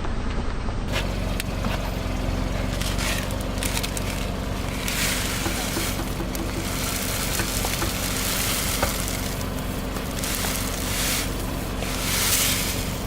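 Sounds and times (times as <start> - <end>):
car engine running: 0.9 - 13.0
things crushed under tyre: 1.0 - 13.0.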